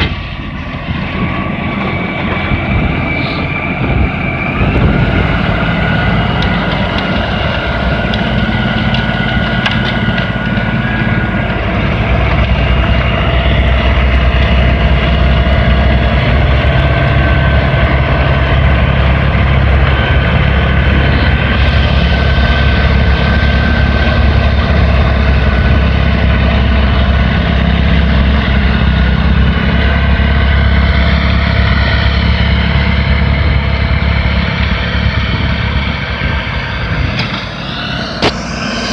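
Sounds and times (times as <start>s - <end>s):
diesel tractor engine running: 0.0s - 38.9s
whine: 0.0s - 38.9s.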